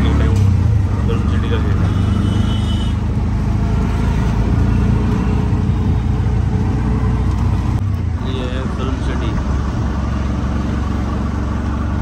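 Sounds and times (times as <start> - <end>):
auto-rickshaw engine droning: 0.0 - 12.0
road and traffic noise: 0.0 - 12.0.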